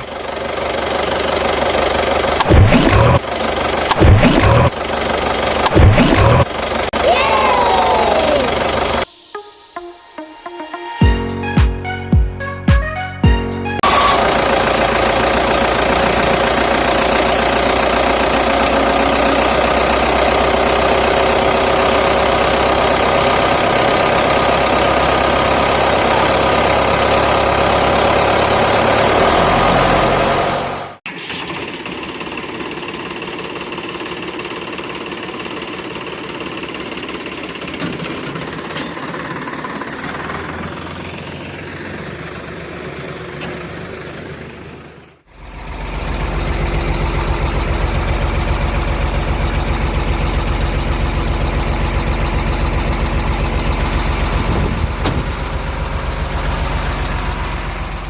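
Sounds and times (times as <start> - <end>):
rough rattling engine: 0.0 - 9.1, 13.8 - 58.0
steady engine running: 0.0 - 9.1, 13.8 - 58.0.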